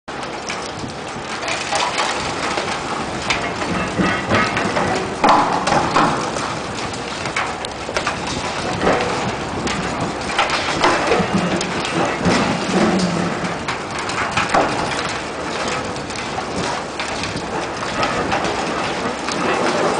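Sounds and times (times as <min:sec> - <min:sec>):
concrete crunching and knocking: 0:00.1 - 0:19.9.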